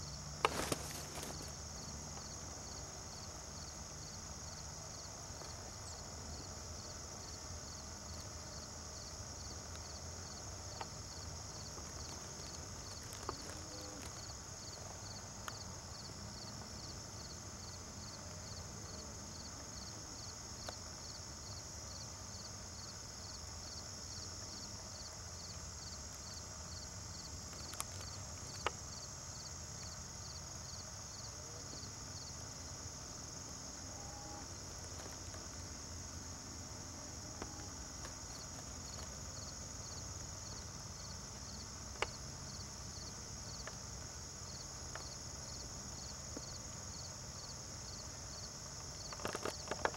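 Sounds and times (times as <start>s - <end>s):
insect chirping: 0.0s - 49.9s
insects buzzing: 0.0s - 49.9s.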